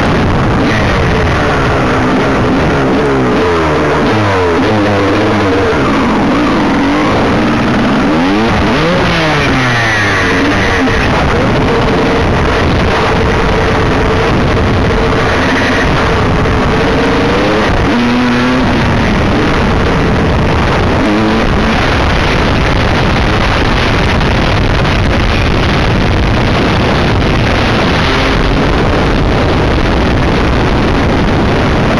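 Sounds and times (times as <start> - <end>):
dirt bike engine revving: 0.0 - 31.9
wind noise on microphone: 0.0 - 31.9.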